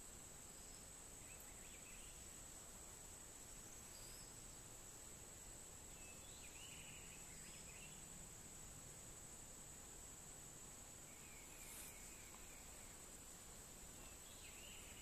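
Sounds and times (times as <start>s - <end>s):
short insect chirps: 0.0s - 4.8s, 5.4s - 15.0s
insects droning: 0.0s - 15.0s.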